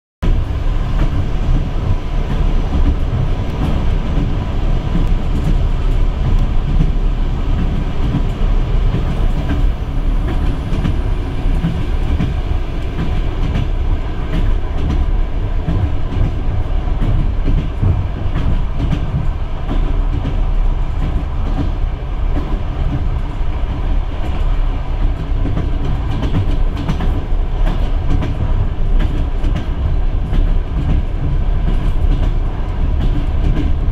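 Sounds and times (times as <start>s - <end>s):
train wheels rumbling on rails: 0.2s - 33.9s.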